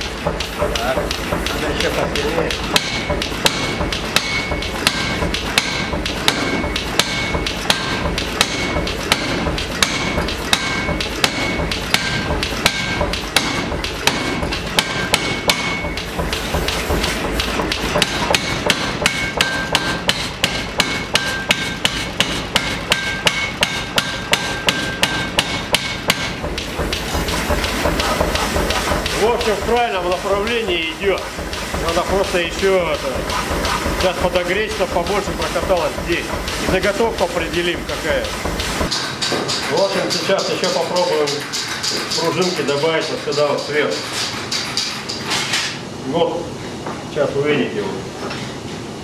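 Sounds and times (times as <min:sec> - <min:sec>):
power hammer striking: 0:00.0 - 0:45.8.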